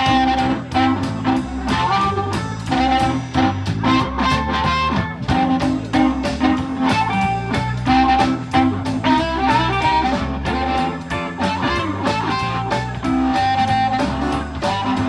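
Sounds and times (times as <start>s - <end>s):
swing blues band instrumental: 0.0s - 15.0s.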